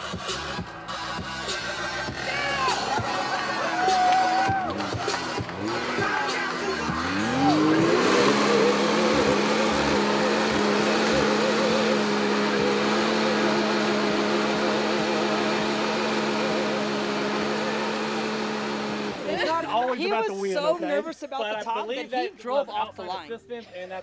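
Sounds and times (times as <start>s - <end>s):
engine revving high: 0.0s - 19.6s.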